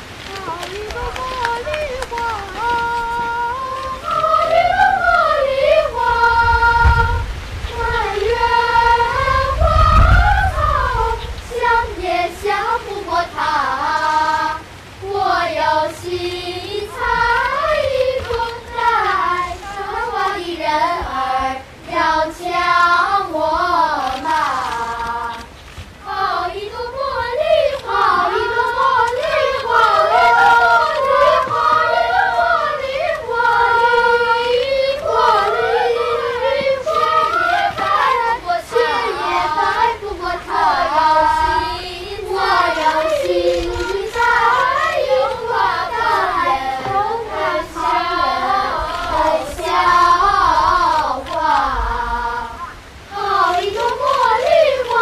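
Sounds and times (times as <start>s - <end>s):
children singing: 0.0s - 55.0s.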